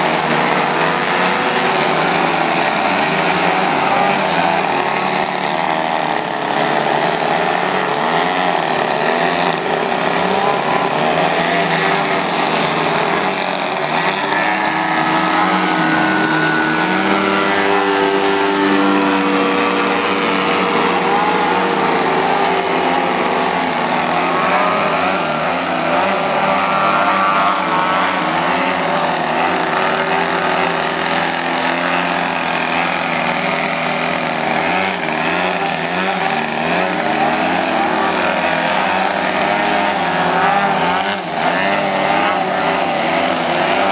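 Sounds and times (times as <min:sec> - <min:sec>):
model airplane engines droning: 0:00.0 - 0:43.9.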